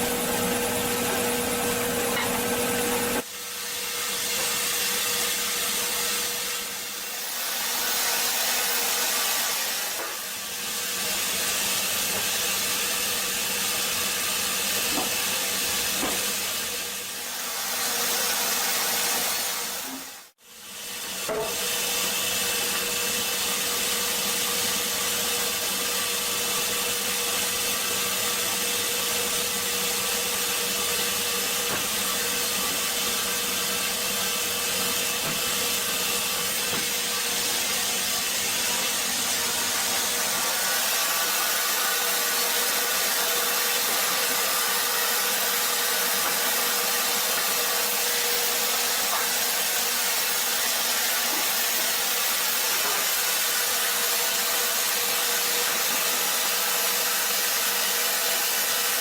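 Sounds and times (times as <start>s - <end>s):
wood-cutting machine whining: 0.0s - 20.3s, 21.1s - 59.0s.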